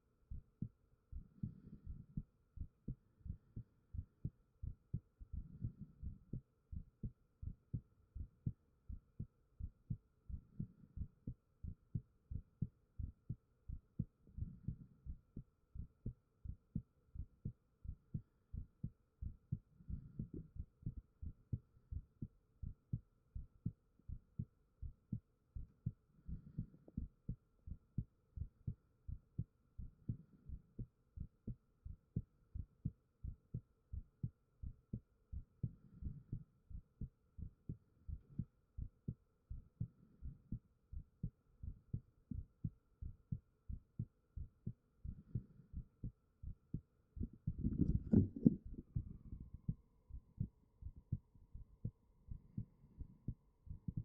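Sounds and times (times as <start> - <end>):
heartbeat thumps: 0.3 - 54.0.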